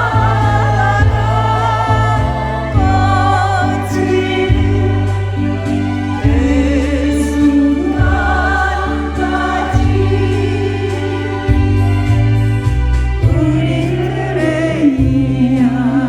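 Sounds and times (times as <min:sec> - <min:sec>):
group of people singing in chorus: 0:00.0 - 0:16.0
steady bass line: 0:00.0 - 0:16.0
sustained keyboard chords: 0:00.0 - 0:16.0.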